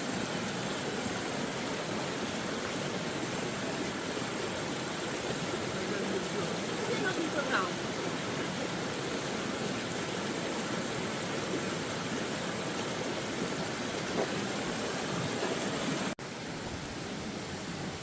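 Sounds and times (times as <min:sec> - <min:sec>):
rain and floodwater: 0:00.0 - 0:18.0.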